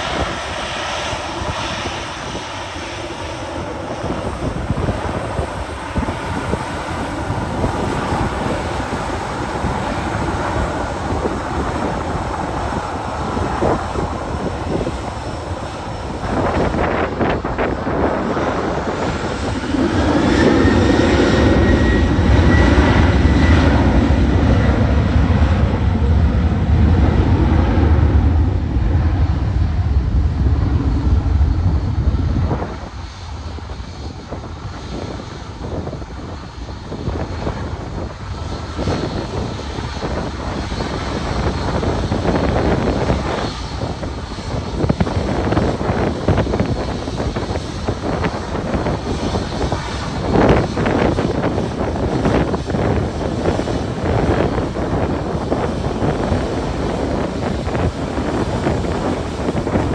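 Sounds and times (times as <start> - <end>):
airliner engines passing: 0.0 - 59.9
wind gusts on microphone: 0.0 - 59.9.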